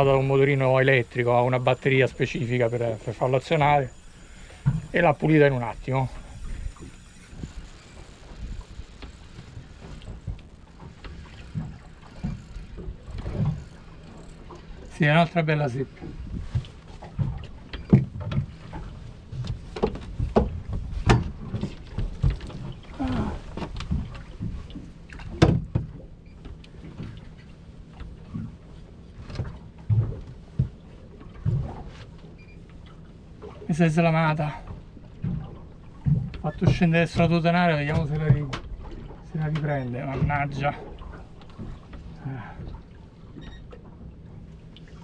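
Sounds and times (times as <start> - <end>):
knocks and thuds on boat: 4.6 - 32.6, 33.4 - 44.4.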